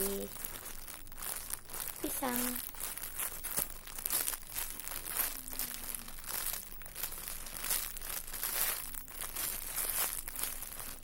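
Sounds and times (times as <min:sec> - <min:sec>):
crinkling and rustling handling noise: 0:00.0 - 0:11.0.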